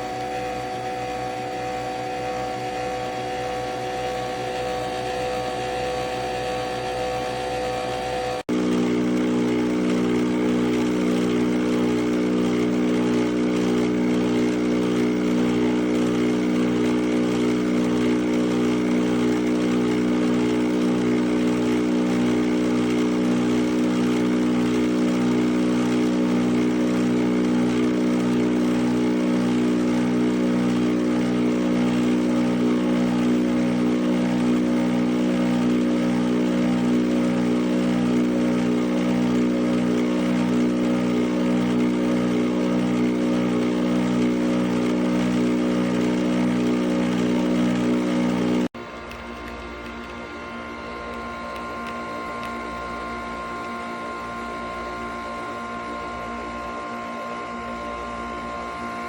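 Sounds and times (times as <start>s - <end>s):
coffee machine brewing hum: 0.0s - 59.0s.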